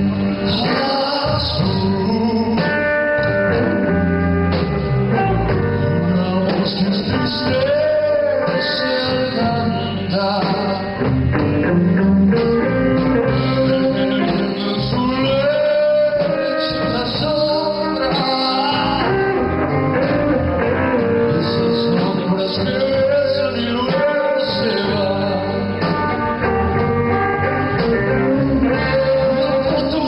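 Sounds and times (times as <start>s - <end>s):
band playing: 0.0s - 30.0s
person singing: 0.2s - 30.0s.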